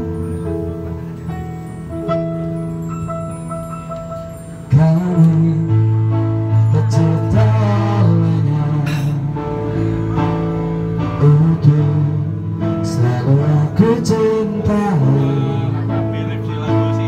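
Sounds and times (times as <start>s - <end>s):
electronic keyboard ballad: 0.0s - 17.0s.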